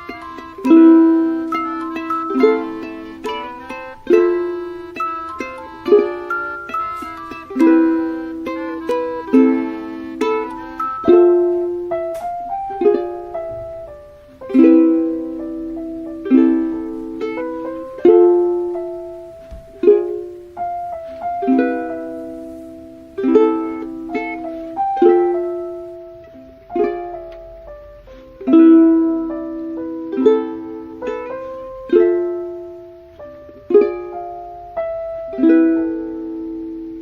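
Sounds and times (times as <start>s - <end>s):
plucked string chords: 0.0s - 37.0s.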